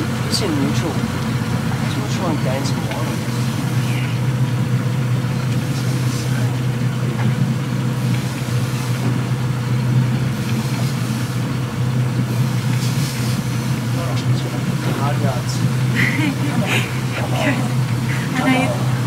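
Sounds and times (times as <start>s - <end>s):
boat engine low hum: 0.0s - 19.0s.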